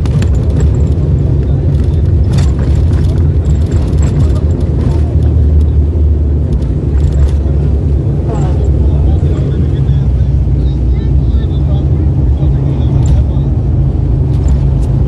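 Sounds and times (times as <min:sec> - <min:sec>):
airliner engine drone in cabin: 0:00.0 - 0:15.0.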